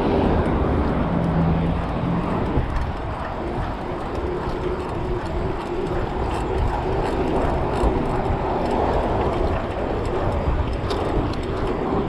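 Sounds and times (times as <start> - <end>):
bicycle tyre noise: 0.0 - 12.0
wind rush on microphone: 0.0 - 12.0.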